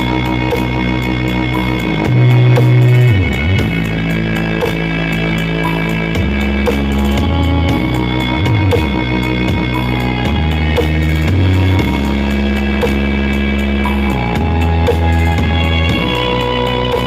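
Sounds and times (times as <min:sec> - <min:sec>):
loud dance music with deep bass: 0:00.0 - 0:17.0.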